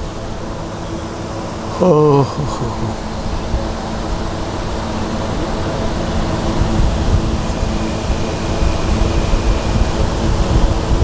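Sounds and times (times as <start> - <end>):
rushing noise with low rumble: 0.0 - 11.0.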